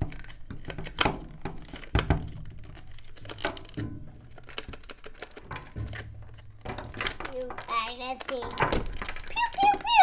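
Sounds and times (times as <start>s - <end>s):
plastic clicks and knocks: 0.0s - 10.0s.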